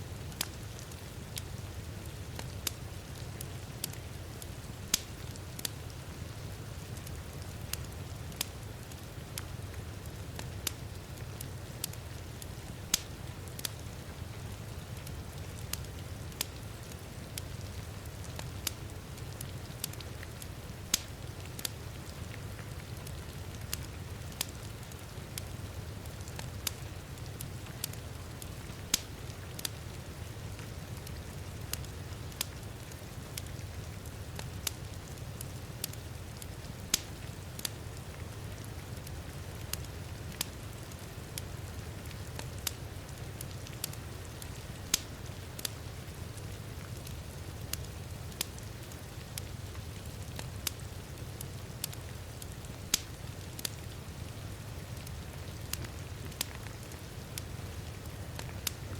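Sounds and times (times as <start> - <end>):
crackling wood fire: 0.0 - 58.9.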